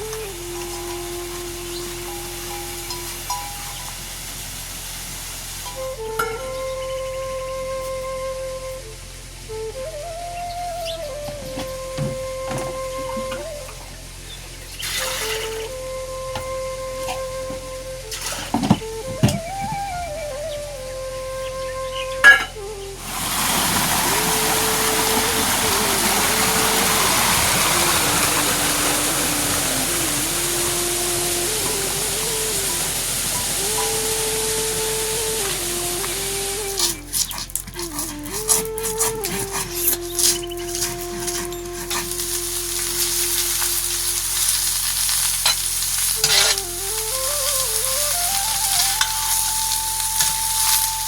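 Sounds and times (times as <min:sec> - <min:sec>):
faint melody: 0:00.0 - 0:51.0
steady hissing noise: 0:00.0 - 0:51.0
water rushing: 0:00.0 - 0:51.0.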